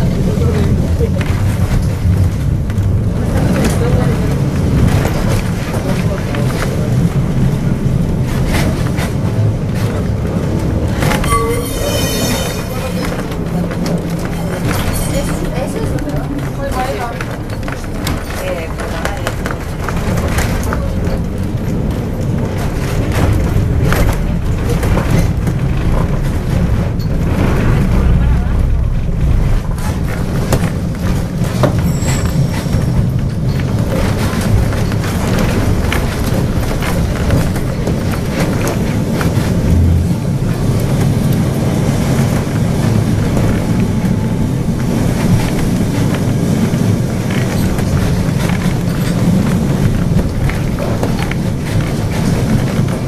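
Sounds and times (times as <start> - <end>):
tram rumbling on rails: 0.0 - 53.0
rattles and clicks: 0.1 - 53.0.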